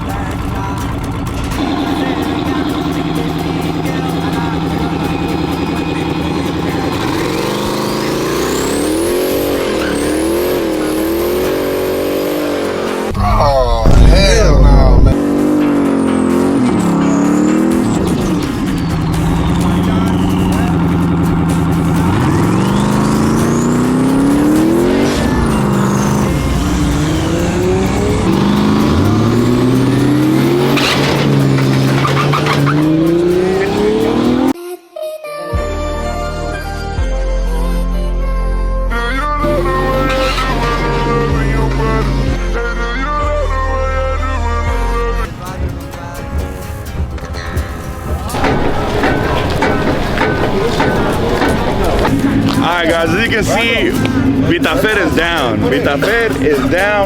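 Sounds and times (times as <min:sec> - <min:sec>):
truck engine revving: 0:00.0 - 0:34.6, 0:39.0 - 0:57.0.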